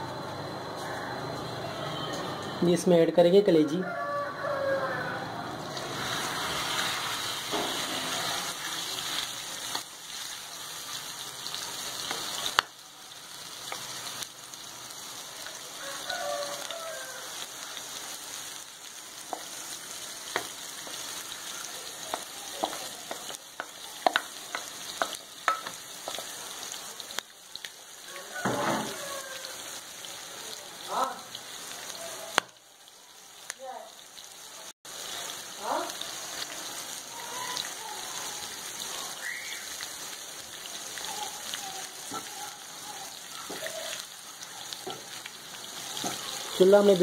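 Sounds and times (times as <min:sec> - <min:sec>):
chicken livers sizzling: 0:02.0 - 0:47.0.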